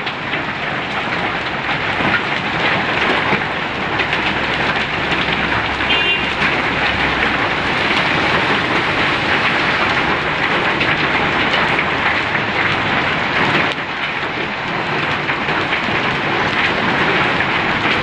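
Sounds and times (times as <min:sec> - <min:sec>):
hail and heavy rain pelting: 0:00.0 - 0:18.0.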